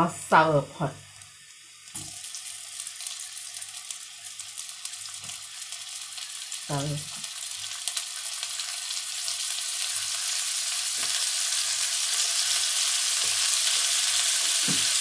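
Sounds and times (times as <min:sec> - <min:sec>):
hot oil sizzling in a wok: 0:00.0 - 0:15.0.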